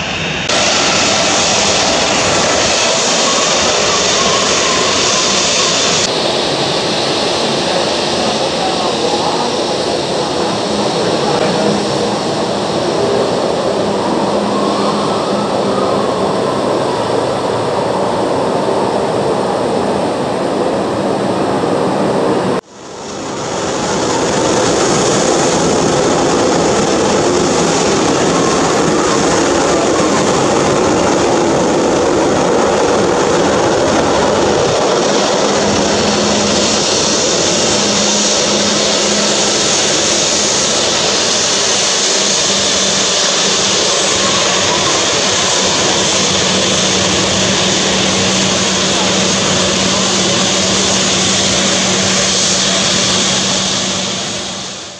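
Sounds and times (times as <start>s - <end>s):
jet engines running: 0.0s - 54.9s.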